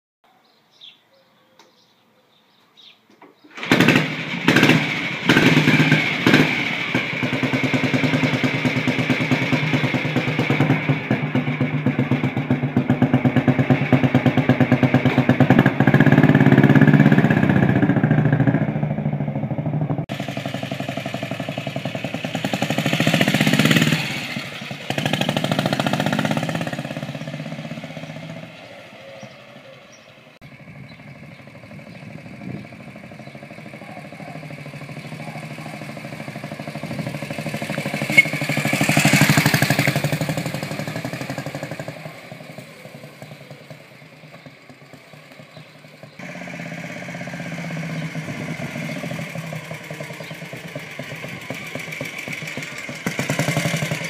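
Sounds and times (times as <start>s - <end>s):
motorcycle engine: 3.5s - 54.0s.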